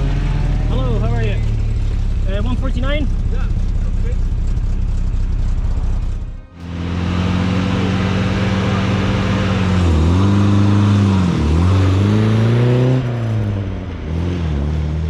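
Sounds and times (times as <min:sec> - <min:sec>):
rally car engine: 0:00.0 - 0:15.0.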